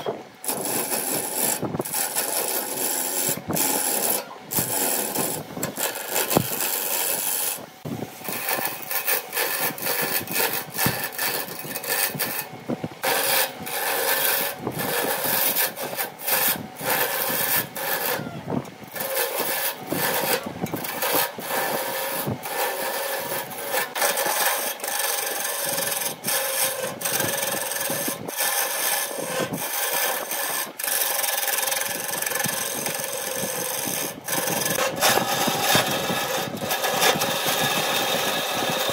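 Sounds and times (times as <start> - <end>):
lathe gouge scraping wood: 0.0 - 38.9.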